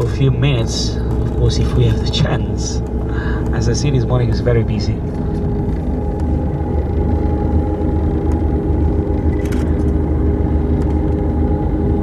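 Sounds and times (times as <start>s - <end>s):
coach engine rumble: 0.0s - 12.0s
constant hum: 0.0s - 12.0s.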